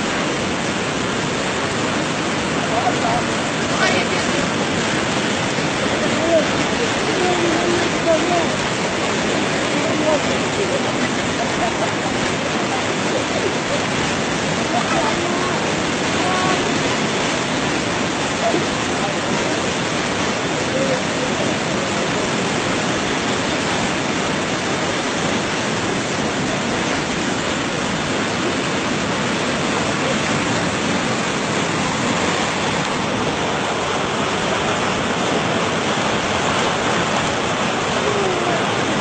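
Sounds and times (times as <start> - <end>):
floodwater rushing: 0.0 - 39.0.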